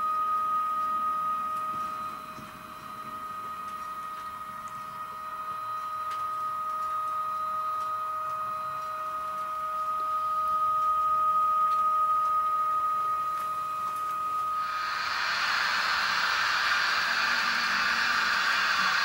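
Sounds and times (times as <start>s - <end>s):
model locomotive motor whine: 0.0s - 19.0s.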